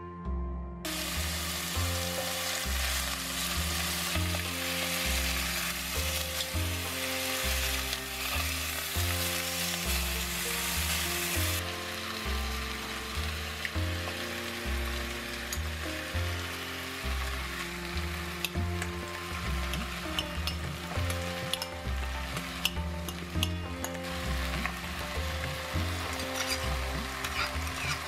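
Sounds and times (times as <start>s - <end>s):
background music with bass line: 0.0s - 28.0s
food sizzling in hot oil: 0.9s - 28.0s.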